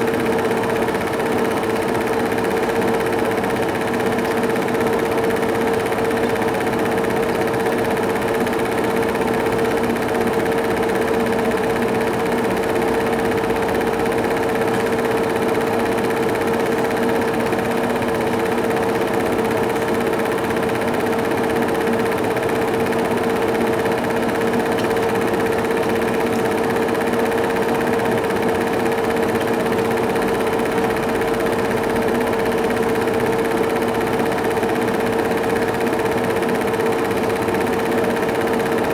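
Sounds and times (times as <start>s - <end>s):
film mechanism whirr and clatter: 0.0s - 38.9s
projector motor hum: 0.0s - 38.9s.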